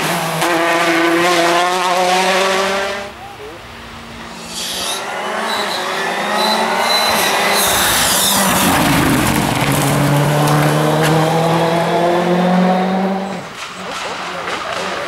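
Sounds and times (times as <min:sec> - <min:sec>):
rally car engine accelerating: 0:00.0 - 0:15.0
rush of tyre noise: 0:00.0 - 0:15.0.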